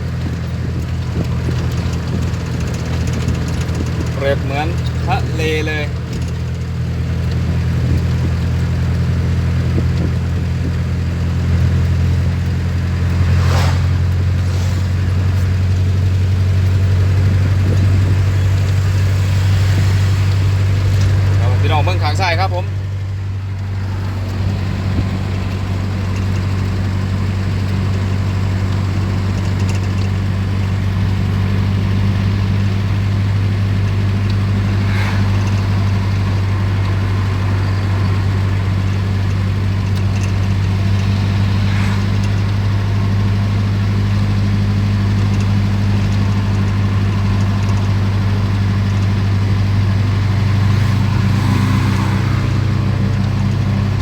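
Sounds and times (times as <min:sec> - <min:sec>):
vehicle engine and road drone: 0:00.0 - 0:54.0.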